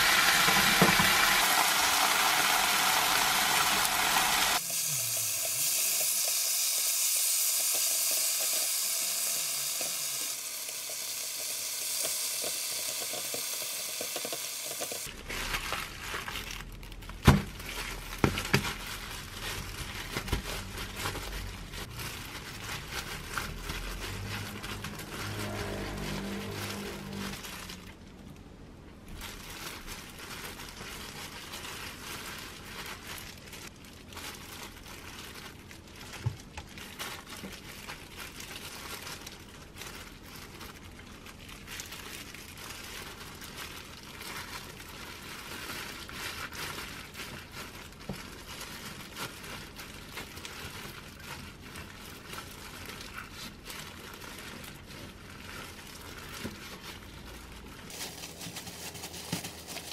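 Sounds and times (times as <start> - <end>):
plastic gloves crinkling: 0.0 - 59.9.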